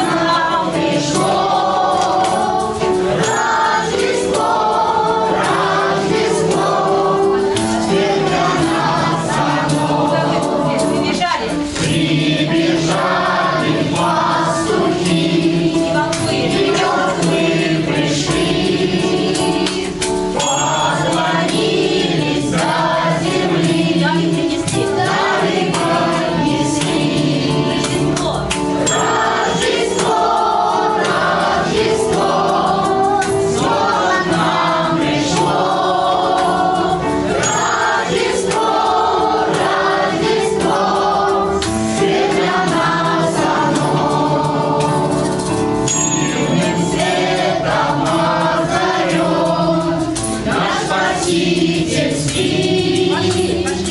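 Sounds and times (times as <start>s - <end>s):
children's choir singing: 0.0s - 53.9s.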